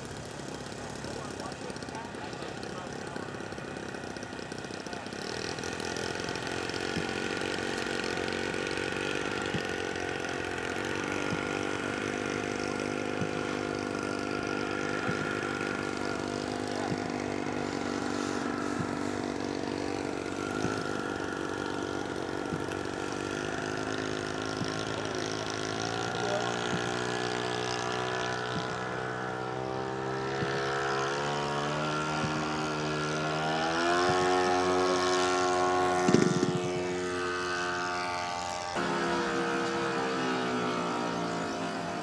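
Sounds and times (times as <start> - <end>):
model airplane engine buzzing: 0.0 - 42.0.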